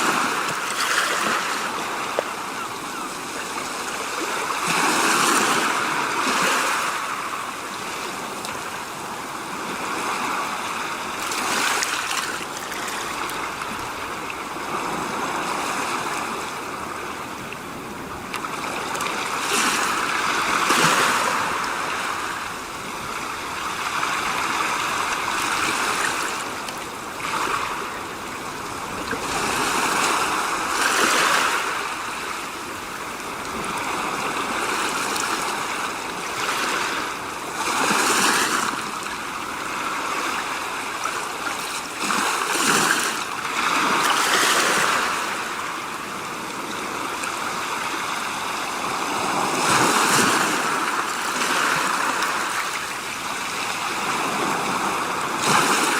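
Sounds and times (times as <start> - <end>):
rushing water-like noise: 0.0 - 55.9.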